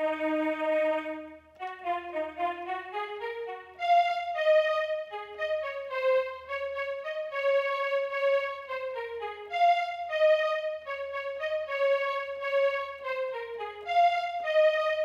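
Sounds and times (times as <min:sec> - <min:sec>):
electronic keyboard melody: 0:00.0 - 0:15.0.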